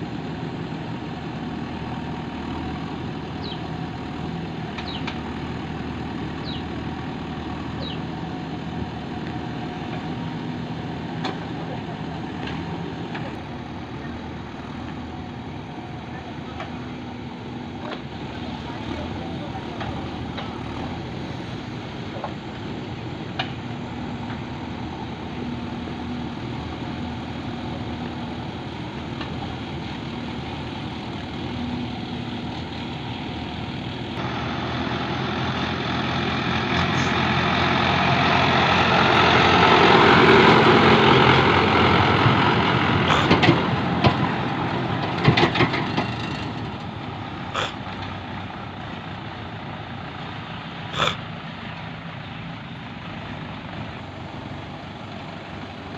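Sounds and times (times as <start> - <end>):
diesel engine drone: 0.0 - 55.9.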